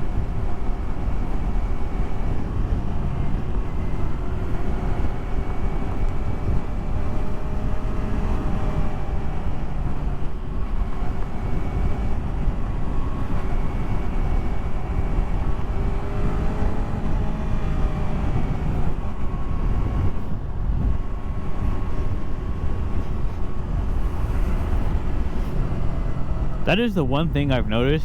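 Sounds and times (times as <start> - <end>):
wind rush on microphone: 0.0 - 27.5.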